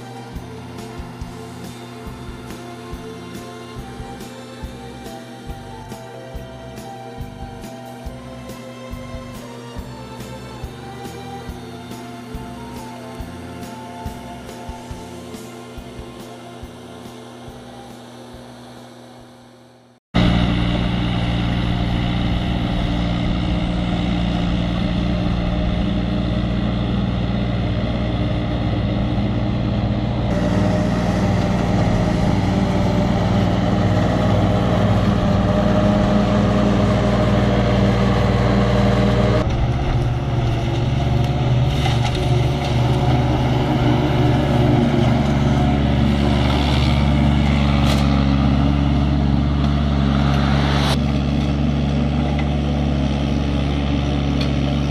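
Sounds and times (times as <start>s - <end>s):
mini loader engine running: 0.0s - 54.9s
mower cutting grass: 0.0s - 54.9s.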